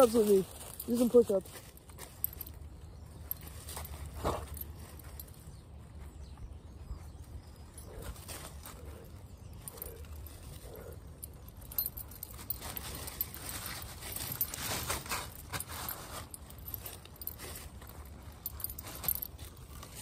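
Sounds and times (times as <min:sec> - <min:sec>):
dry leaves crackling and rustling: 0:00.0 - 0:05.5, 0:07.0 - 0:20.0.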